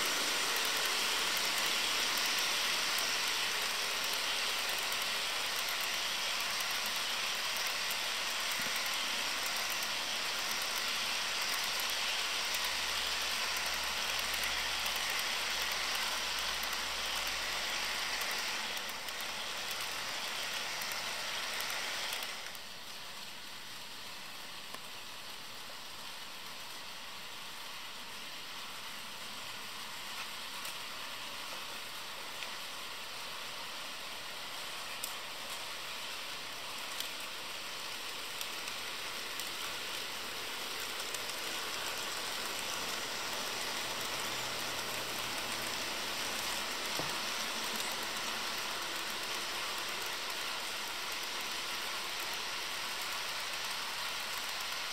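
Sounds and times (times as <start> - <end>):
model train wheels hissing on rails: 0.0 - 54.9.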